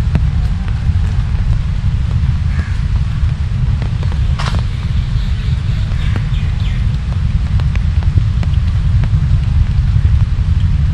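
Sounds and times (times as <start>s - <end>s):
deep low rumble: 0.0s - 10.9s
rain falling: 0.0s - 10.9s.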